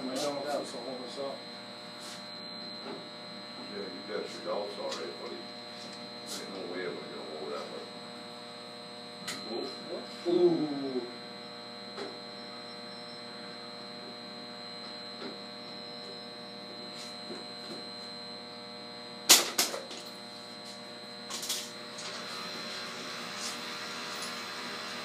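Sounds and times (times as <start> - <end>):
electrical hum with high whine: 0.0 - 25.0.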